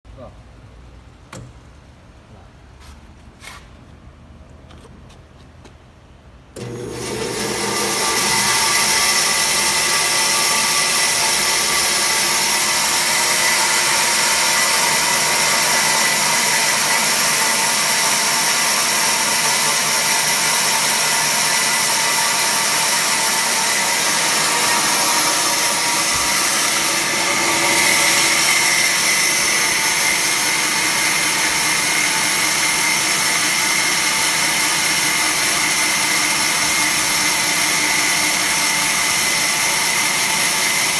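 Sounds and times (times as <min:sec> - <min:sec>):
band saw cutting: 0:06.6 - 0:40.9.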